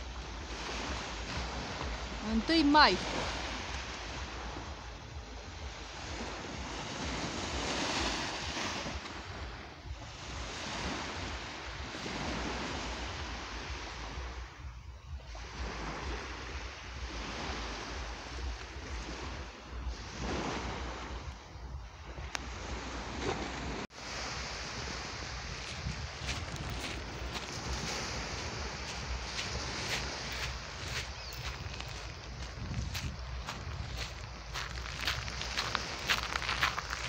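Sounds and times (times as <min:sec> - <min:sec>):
small waves breaking on shore: 0:00.0 - 0:37.0.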